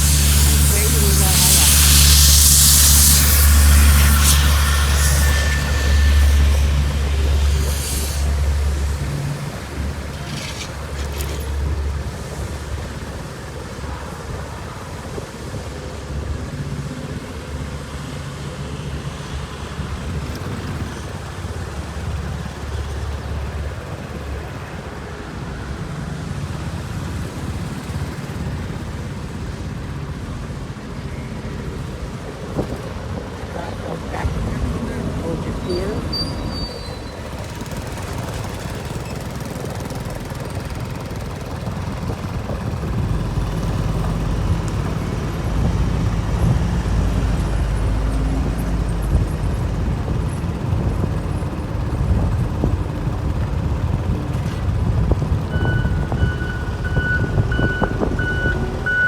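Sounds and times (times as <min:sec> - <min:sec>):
heavy machinery engines humming: 0:00.0 - 0:59.0.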